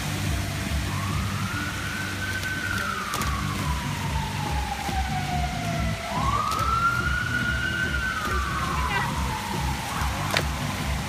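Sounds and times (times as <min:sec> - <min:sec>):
dance music with bass beat: 0:00.0 - 0:11.0
siren wailing: 0:00.5 - 0:11.0.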